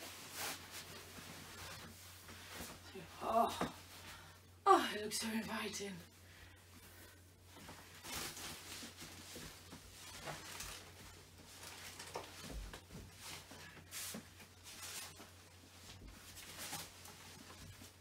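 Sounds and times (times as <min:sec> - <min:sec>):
fabric bedding rustling: 0:00.0 - 0:04.5, 0:06.0 - 0:18.0.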